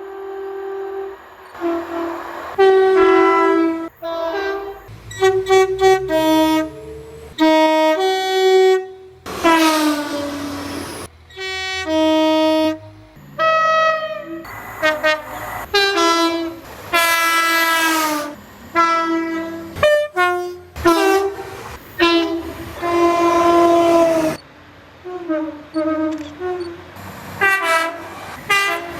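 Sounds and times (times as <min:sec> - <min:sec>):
locomotive air horn blasts: 0:00.0 - 0:28.9.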